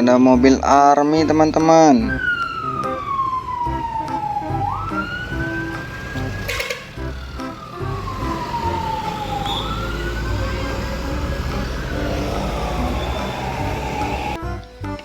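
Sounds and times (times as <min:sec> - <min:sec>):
wailing siren: 0:01.5 - 0:14.4.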